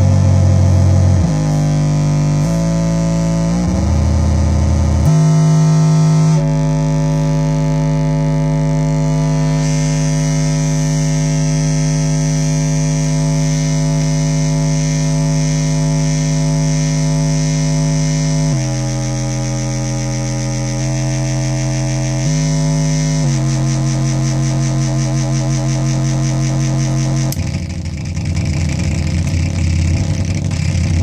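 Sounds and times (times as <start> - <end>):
buzzy synth drone: 0.0 - 31.0.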